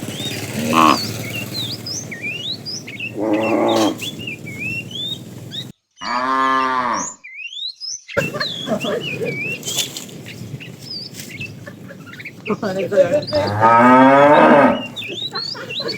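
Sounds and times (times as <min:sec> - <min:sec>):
cows mooing: 0:00.0 - 0:07.2, 0:08.2 - 0:15.9
small birds chirping: 0:00.0 - 0:15.9.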